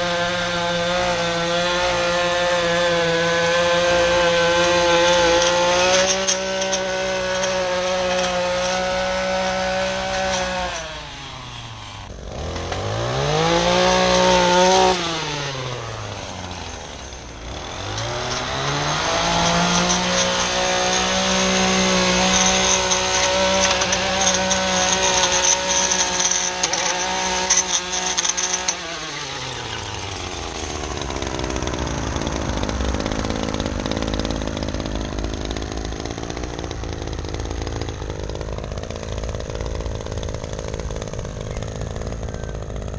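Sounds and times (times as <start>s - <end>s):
small two-stroke engine revving: 0.0s - 42.9s.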